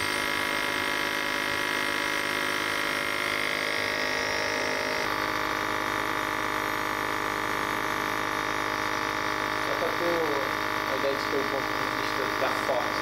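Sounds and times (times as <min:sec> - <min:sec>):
nebulizer compressor buzzing: 0:00.0 - 0:13.0.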